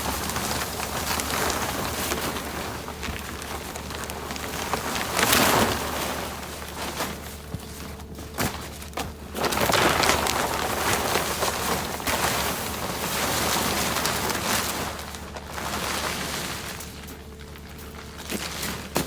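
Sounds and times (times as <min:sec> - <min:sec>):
dense crackling rustling noise: 0:00.0 - 0:19.0
low engine hum: 0:00.0 - 0:19.0.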